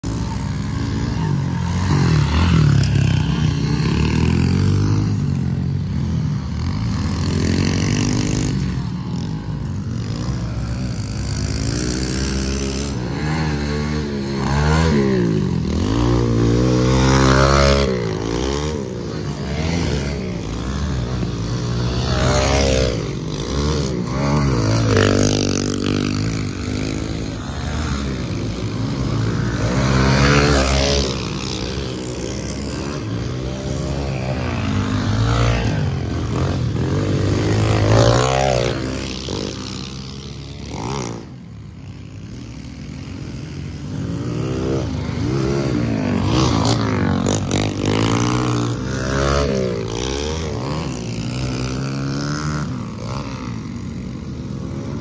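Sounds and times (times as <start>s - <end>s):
pit bike engines revving: 0.0s - 55.0s.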